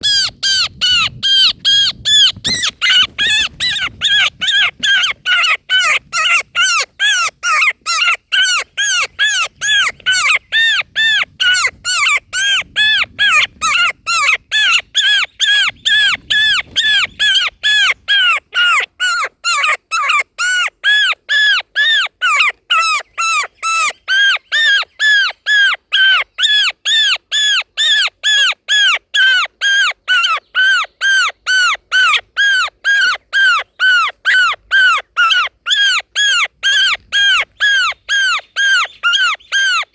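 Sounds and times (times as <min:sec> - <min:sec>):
bird chick calling: 0:00.0 - 0:39.9.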